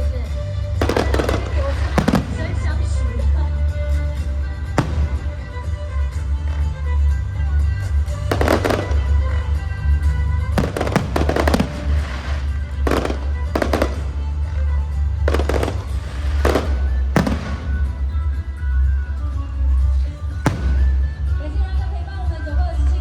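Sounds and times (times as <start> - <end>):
fireworks crackling bursts: 0.0 - 21.8
loud music with heavy bass: 0.0 - 22.0.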